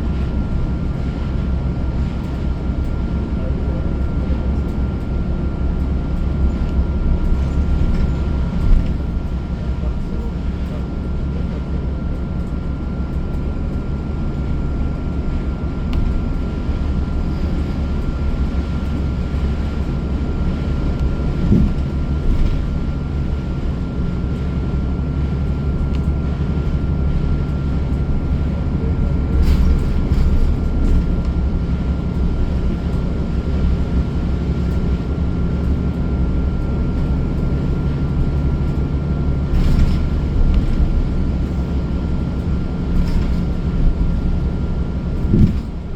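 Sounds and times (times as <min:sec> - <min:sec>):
bus engine and road drone: 0:00.0 - 0:45.9.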